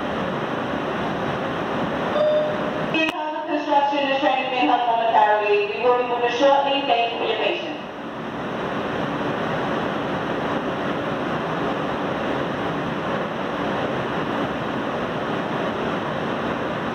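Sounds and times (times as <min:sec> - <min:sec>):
subway car rumble: 0:00.0 - 0:16.9.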